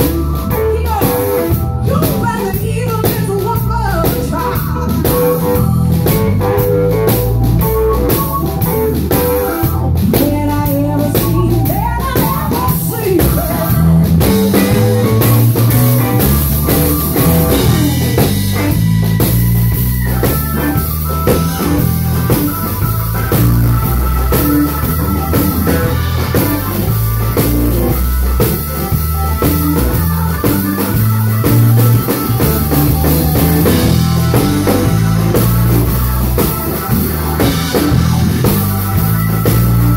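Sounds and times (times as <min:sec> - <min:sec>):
drum kit: 0:00.0 - 0:39.9
electric bass: 0:00.0 - 0:39.9
live blues band: 0:00.0 - 0:39.9
stage piano: 0:00.0 - 0:39.9.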